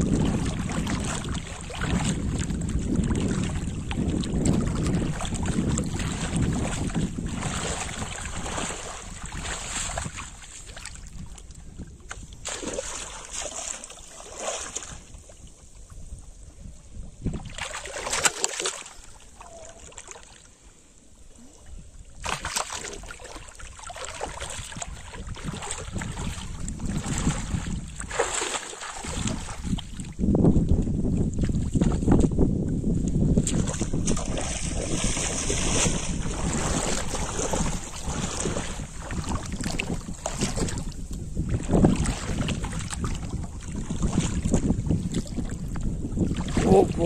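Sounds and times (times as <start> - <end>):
fish thrashing in water: 0.0 - 11.2, 12.2 - 15.2, 17.2 - 20.4, 22.2 - 30.2, 33.3 - 47.0
wind buffeting microphone: 0.0 - 18.3, 21.4 - 47.0
person wading through water: 0.0 - 47.0.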